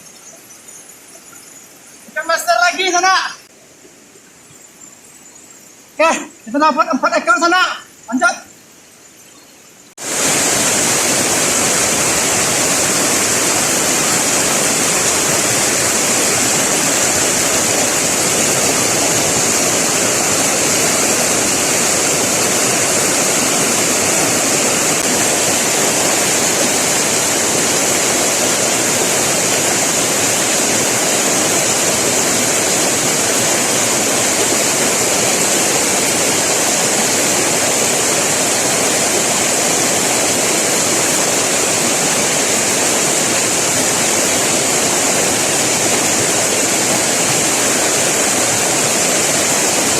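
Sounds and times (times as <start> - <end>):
river water rushing underwater: 9.8 - 49.9.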